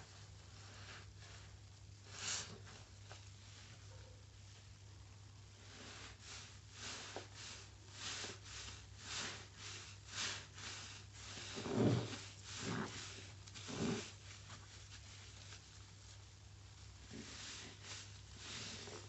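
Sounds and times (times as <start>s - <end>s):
sponge squelching in soapy water: 0.0s - 4.8s, 5.4s - 19.0s.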